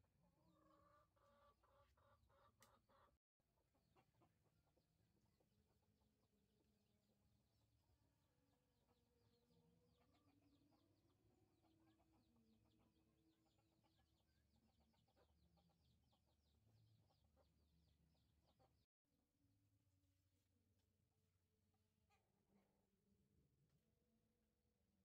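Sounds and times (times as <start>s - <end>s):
faint chickens clucking: 0.0s - 19.4s, 20.1s - 24.0s.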